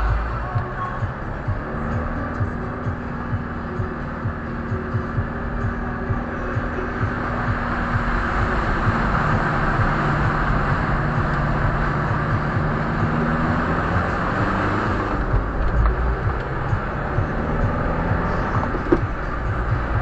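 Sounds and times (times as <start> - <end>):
motor vehicle engine hum: 0.0 - 20.0
steady rushing noise: 0.0 - 20.0.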